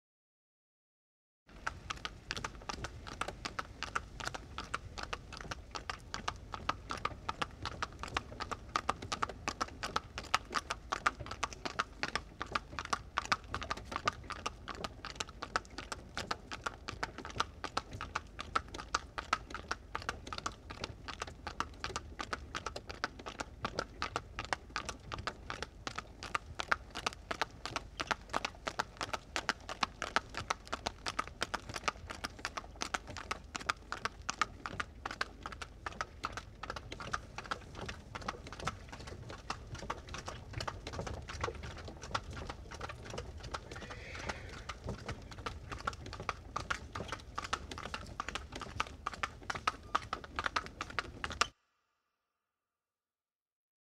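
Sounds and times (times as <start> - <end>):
hooves clip-clopping: 1.5 - 51.5.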